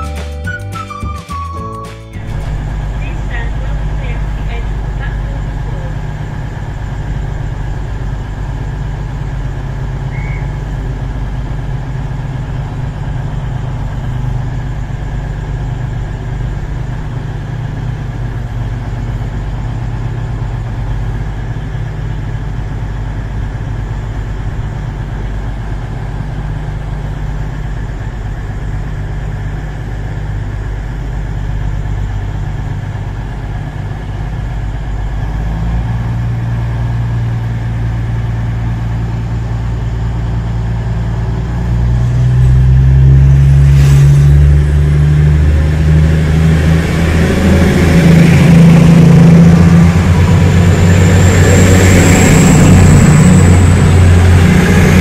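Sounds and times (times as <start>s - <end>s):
diesel train engine idling: 0.0s - 55.0s.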